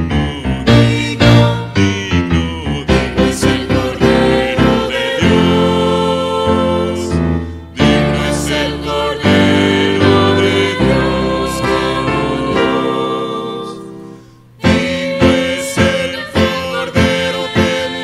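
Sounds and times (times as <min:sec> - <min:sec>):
keyboard chords: 0:00.0 - 0:18.0
vocal quartet singing a hymn: 0:00.0 - 0:18.0.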